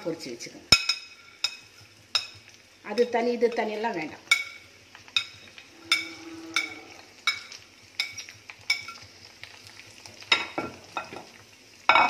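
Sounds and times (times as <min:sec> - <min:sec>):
ghee sizzling: 0:00.0 - 0:12.0.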